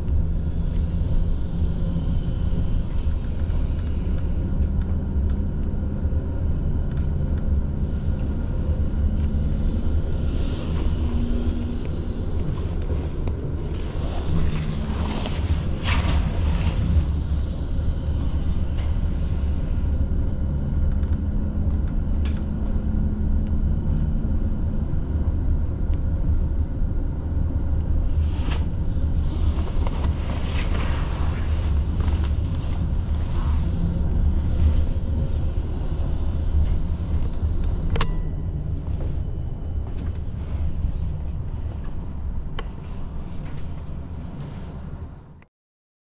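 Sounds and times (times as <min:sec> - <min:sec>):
tram wheels rumbling: 0:00.0 - 0:45.0
humming tone: 0:00.0 - 0:45.4.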